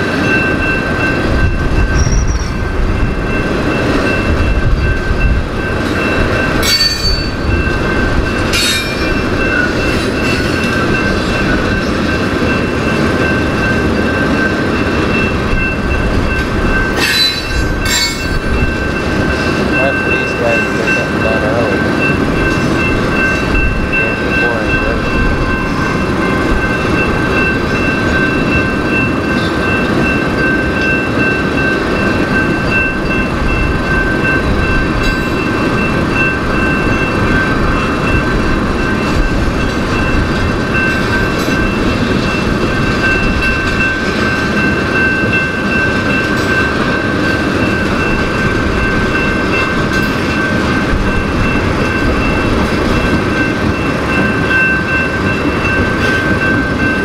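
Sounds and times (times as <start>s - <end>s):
crossing bell ringing: 0.0s - 57.0s
train wheels rumbling on rails: 0.0s - 57.0s.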